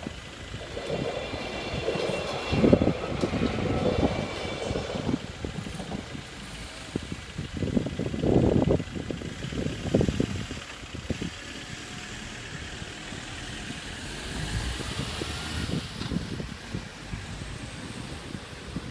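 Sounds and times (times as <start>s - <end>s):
wind rumble on microphone: 0.0s - 18.9s.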